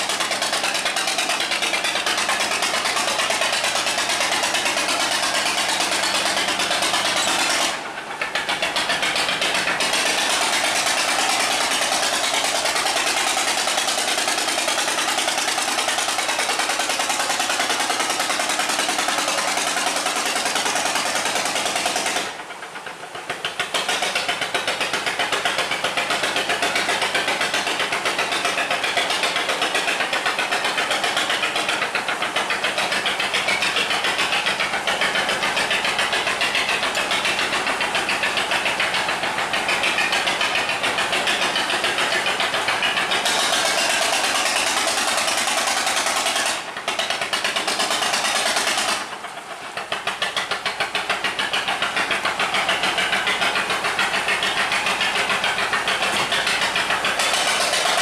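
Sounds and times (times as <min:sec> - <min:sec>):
boat diesel engine pulsing: 0:00.0 - 0:58.0.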